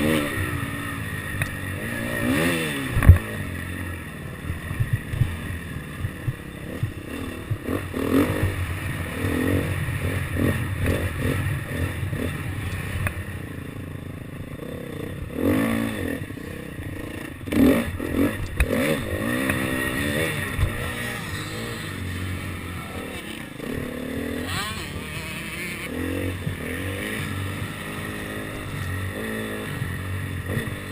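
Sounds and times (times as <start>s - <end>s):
motocross bike engine revving: 0.0s - 30.9s.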